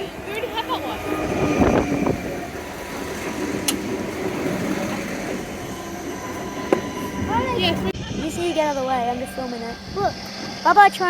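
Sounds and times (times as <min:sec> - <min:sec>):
diesel railcar engine hum: 0:00.0 - 0:11.0.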